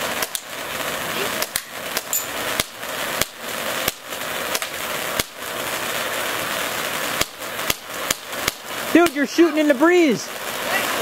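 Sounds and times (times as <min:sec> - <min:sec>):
firework hissing: 0:00.0 - 0:11.0
sharp firework pops: 0:00.0 - 0:11.0.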